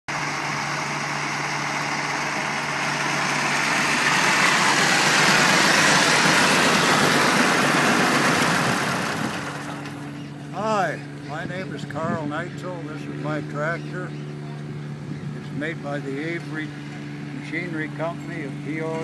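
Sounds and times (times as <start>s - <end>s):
tractor engine running: 0.1s - 19.0s.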